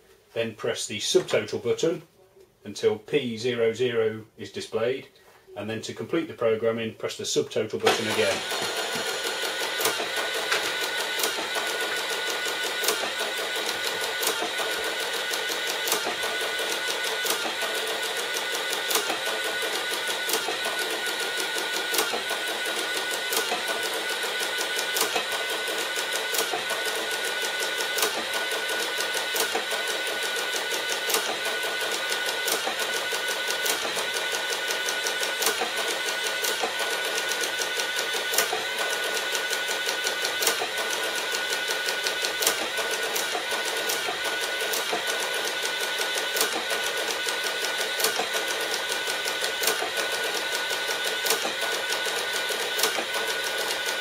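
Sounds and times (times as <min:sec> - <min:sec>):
printer clicks: 0:07.8 - 0:54.0
receipt printer printing: 0:07.8 - 0:54.0.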